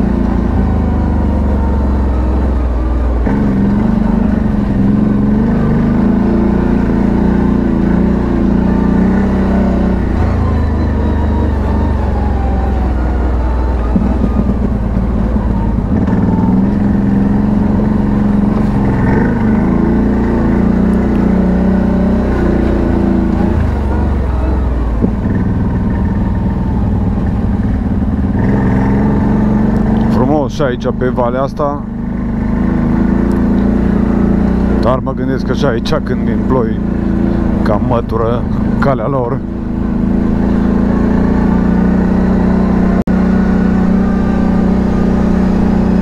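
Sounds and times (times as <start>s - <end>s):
atv engine revving: 0.0s - 46.0s.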